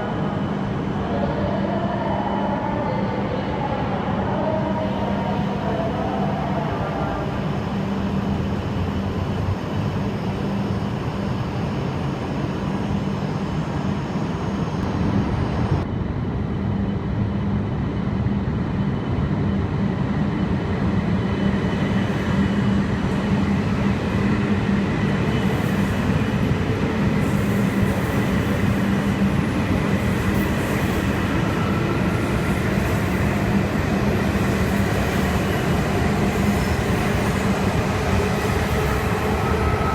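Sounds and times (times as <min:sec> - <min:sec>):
bullet train rushing: 0:00.0 - 0:39.9.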